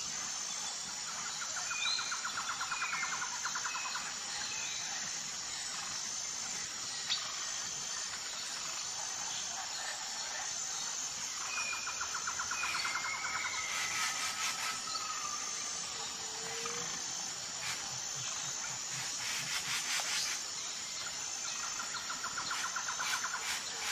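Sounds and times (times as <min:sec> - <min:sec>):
insect chorus: 0:00.0 - 0:23.9.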